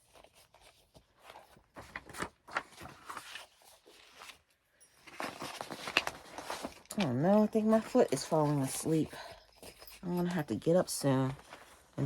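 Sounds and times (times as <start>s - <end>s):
plastic sleeve and paper rustling: 0.0s - 12.0s.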